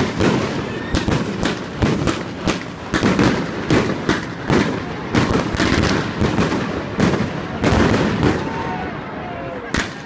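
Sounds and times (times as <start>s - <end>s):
fireworks bursting with bangs: 0.0s - 8.8s, 9.7s - 10.0s.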